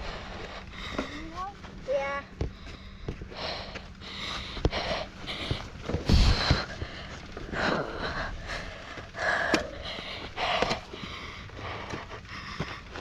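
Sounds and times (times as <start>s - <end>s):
person breathing hard: 0.0s - 1.5s, 2.4s - 13.0s.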